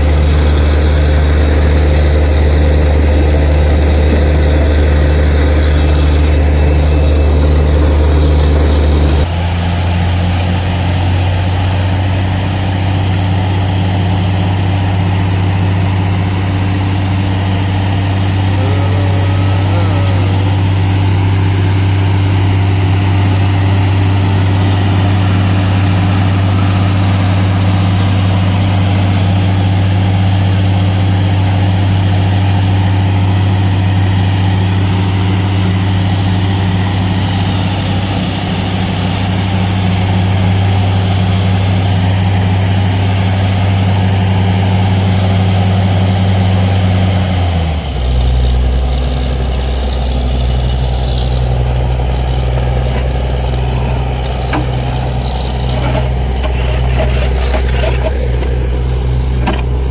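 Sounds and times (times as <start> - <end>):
drilling rig diesel engine: 0.0 - 59.9.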